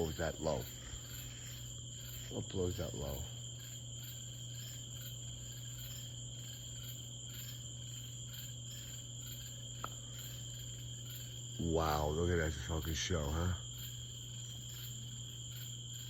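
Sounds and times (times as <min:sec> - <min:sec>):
crickets trilling: 0:00.0 - 0:16.0
faint high pulsing chirp: 0:00.0 - 0:16.0
steady low hum: 0:00.0 - 0:16.0.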